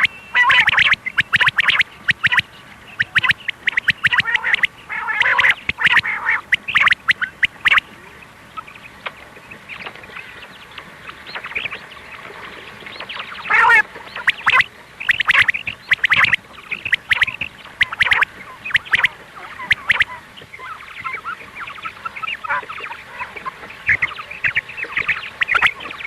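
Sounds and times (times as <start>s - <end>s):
quail calling: 0.0s - 11.9s, 13.0s - 26.0s.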